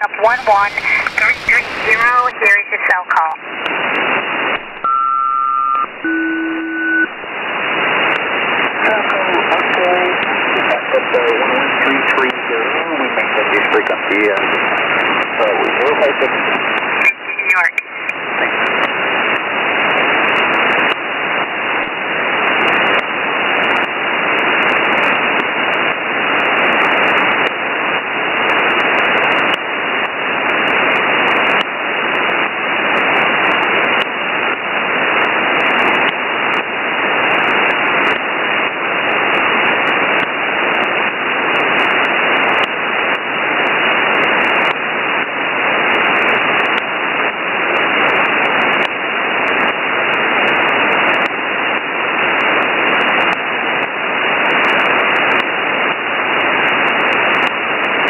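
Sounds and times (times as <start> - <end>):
radio band noise hiss: 0.0 - 58.0
static crackles: 0.0 - 58.0.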